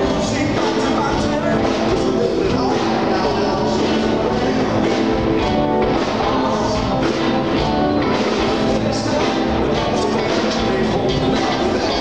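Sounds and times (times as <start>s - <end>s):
music with instruments and drums: 0.0s - 12.0s.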